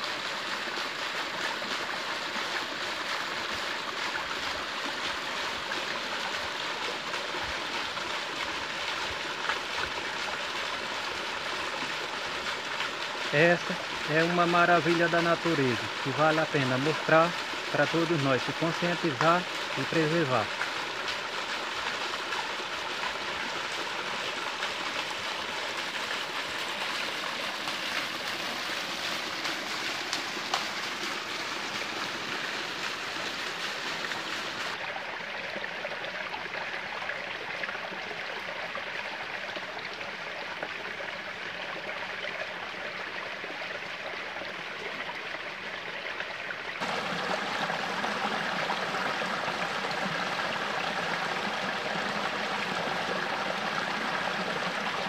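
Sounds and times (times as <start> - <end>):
small cascade rushing over boulders: 0.0 - 55.0
stream trickling between rocks: 0.0 - 55.0.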